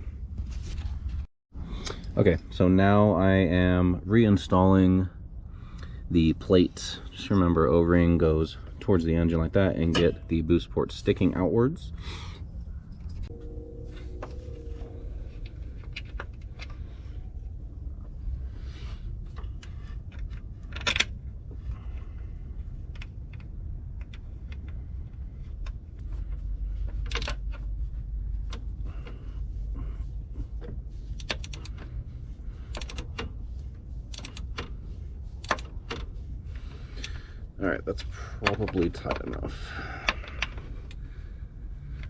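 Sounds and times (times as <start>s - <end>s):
steady low rumble: 0.0s - 42.0s.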